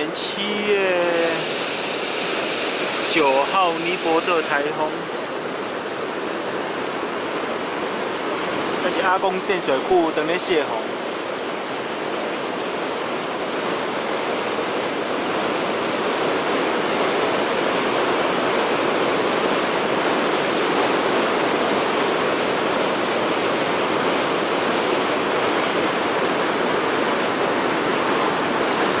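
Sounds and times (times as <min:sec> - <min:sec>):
heavy rush of water: 0:00.0 - 0:29.0.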